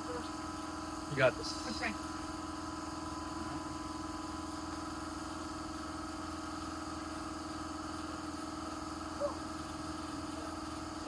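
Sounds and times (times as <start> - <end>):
machine hum with held tones: 0.0 - 11.0.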